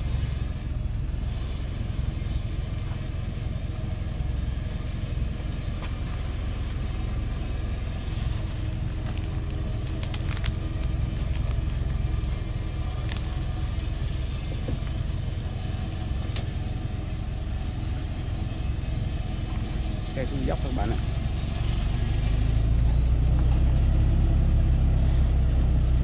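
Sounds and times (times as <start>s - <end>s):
truck engine rumbling: 0.0s - 26.0s.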